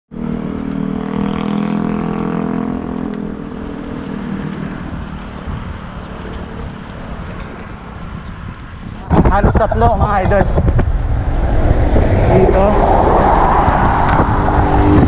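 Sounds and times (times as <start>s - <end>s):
road and wind rumble: 0.1s - 15.0s
vehicle engine hum: 0.1s - 15.0s.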